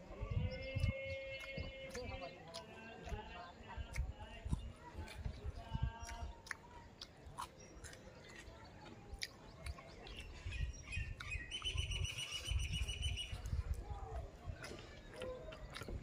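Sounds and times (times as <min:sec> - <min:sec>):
chewing and mixing food clicks: 0:00.3 - 0:16.0.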